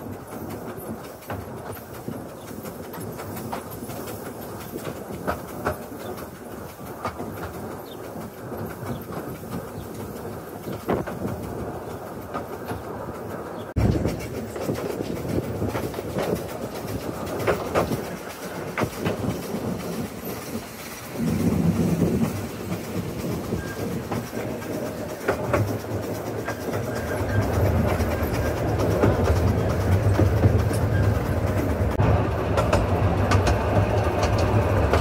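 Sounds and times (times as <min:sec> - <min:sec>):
rail joint clicks: 0:00.0 - 0:35.0
train wheel rumble: 0:00.0 - 0:35.0.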